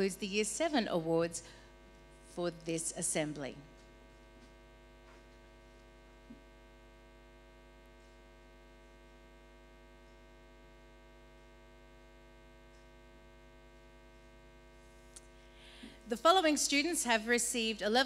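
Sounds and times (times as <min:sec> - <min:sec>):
buzzy electrical mains hum: 0:00.0 - 0:18.0.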